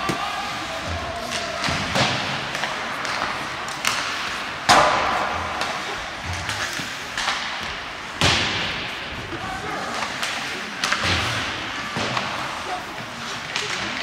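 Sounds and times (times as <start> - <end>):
hockey sticks knocking puck: 0.0 - 14.0.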